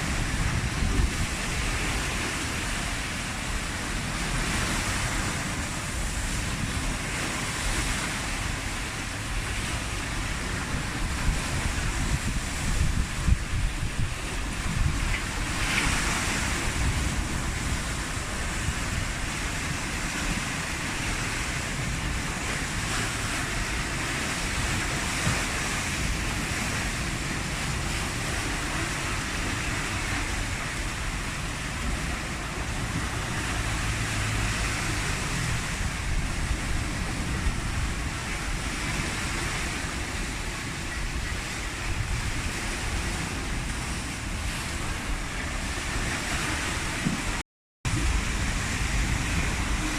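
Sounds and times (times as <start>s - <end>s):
surf breaking on shore: 0.0s - 49.9s
wind gusting on microphone: 0.0s - 49.9s.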